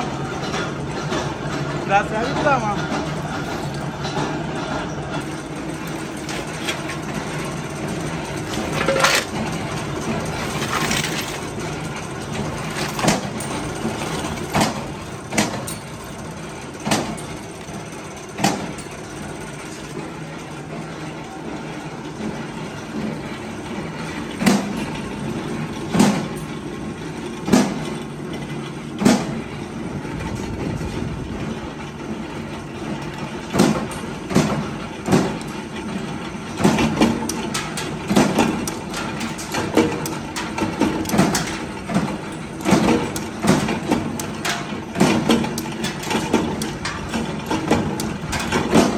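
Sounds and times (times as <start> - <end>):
workshop machine humming: 0.0 - 48.9.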